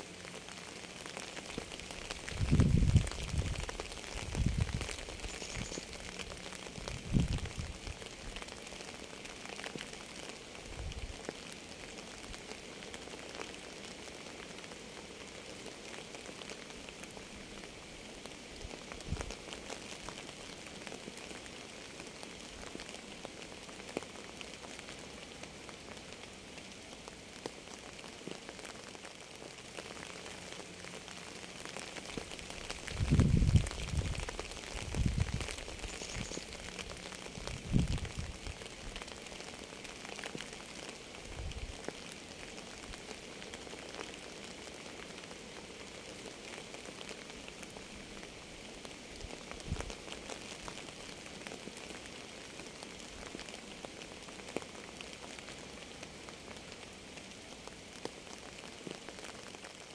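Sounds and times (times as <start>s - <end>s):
steady rain with drops ticking: 0.0s - 59.9s.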